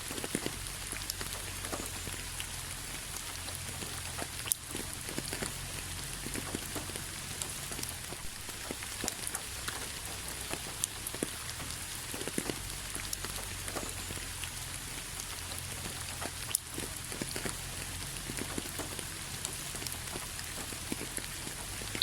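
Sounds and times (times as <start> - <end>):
raindrops ticking: 0.0 - 22.0
steady rain hiss: 0.0 - 22.0.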